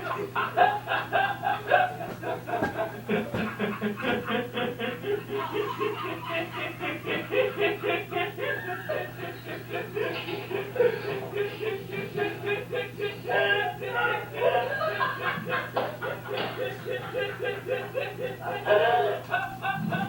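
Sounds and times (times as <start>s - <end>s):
rapid snickering laugh: 0.0s - 20.0s.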